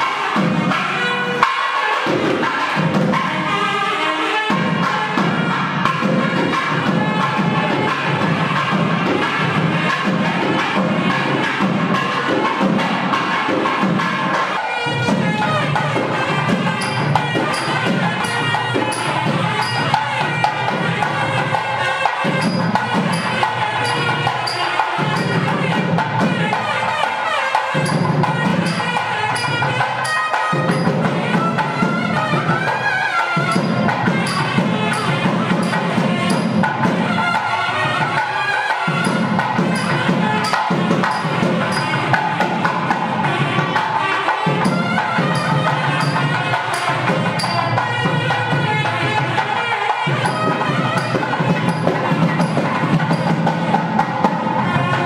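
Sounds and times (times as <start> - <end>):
drum beat: 0.0 - 3.7, 4.4 - 55.0.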